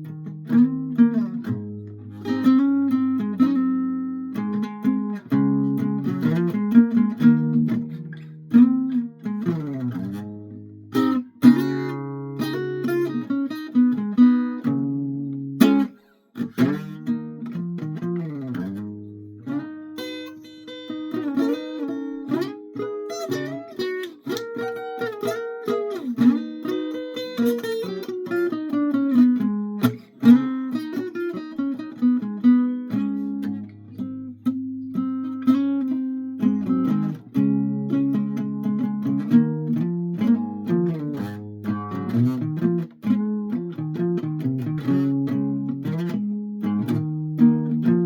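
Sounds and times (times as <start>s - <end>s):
acoustic guitar melody: 0.0s - 48.0s.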